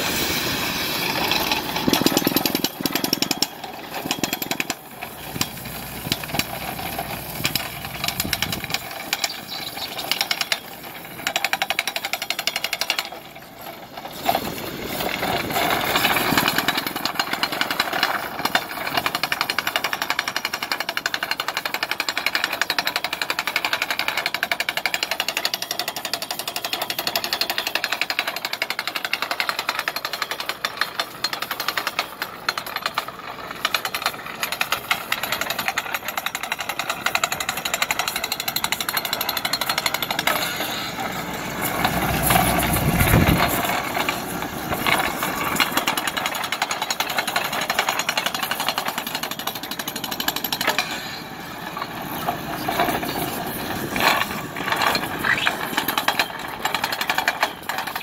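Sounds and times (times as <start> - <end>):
hydraulic pile driver hammering: 1.1 - 58.0.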